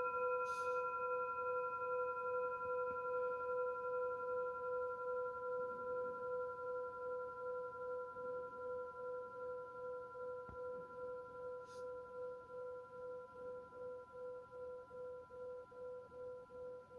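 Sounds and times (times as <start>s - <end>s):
singing bowl ringing: 0.0s - 16.9s.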